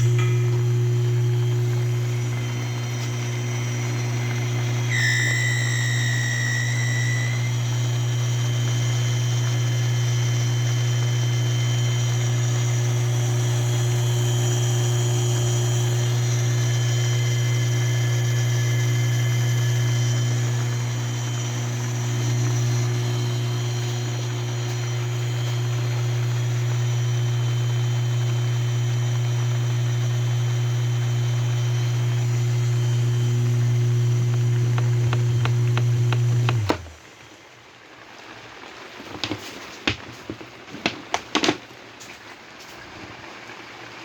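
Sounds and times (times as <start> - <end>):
shrill whine: 0.0 - 37.0
pump motor humming and whining: 0.0 - 38.0.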